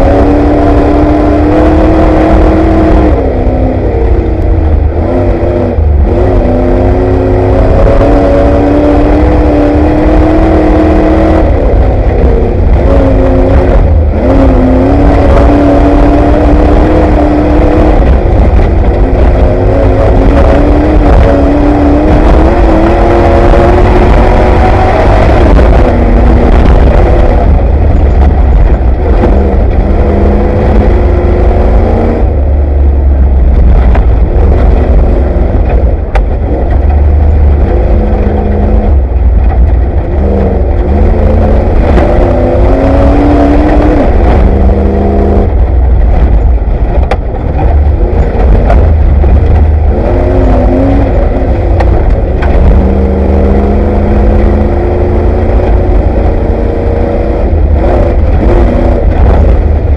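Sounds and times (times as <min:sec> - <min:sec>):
heavy low rumble: 0:00.0 - 0:59.9
race vehicle engine revving: 0:00.0 - 0:59.9.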